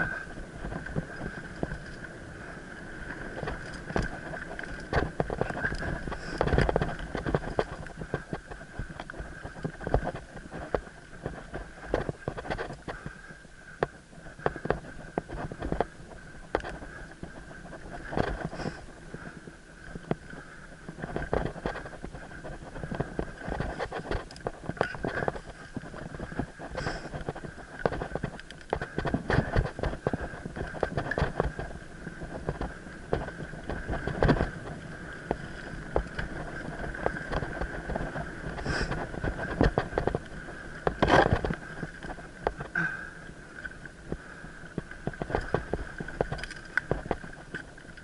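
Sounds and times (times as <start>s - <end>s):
bike rattling and knocking: 0.0s - 2.0s, 3.3s - 13.2s, 13.8s - 19.2s, 20.0s - 43.0s, 45.1s - 47.6s
bike tyres rolling on dirt: 0.0s - 48.0s.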